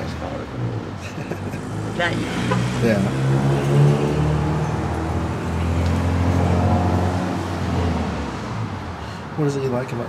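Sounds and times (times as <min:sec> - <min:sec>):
vehicle engine humming: 0:00.0 - 0:09.0.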